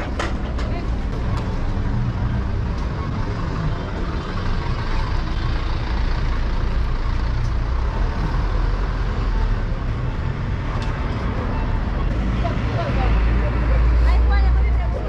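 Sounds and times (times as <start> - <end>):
heavy engines rumbling: 0.0 - 15.0
passing traffic: 0.0 - 15.0.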